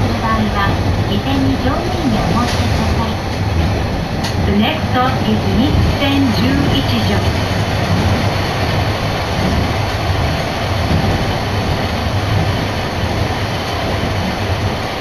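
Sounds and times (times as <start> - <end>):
streetcar wheels and motor rumbling: 0.0 - 15.0.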